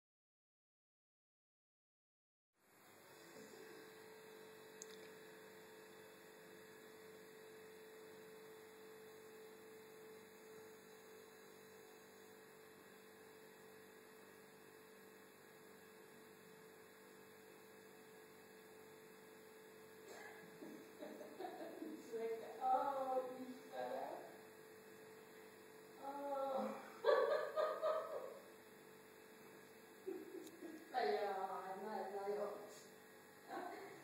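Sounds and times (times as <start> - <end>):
electrical hum: 2.6 - 34.0.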